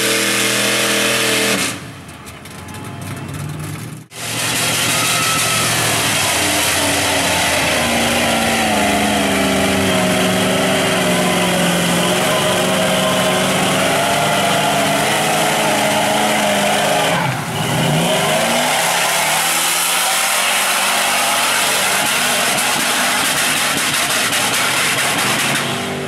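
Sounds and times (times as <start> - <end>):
engine revving under load: 0.0 - 1.9, 4.1 - 26.0.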